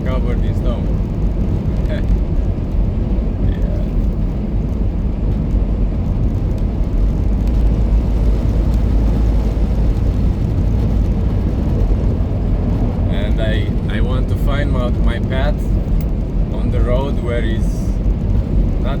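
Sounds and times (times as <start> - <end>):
truck diesel engine drone: 0.0 - 19.0
tyres on road: 0.0 - 19.0.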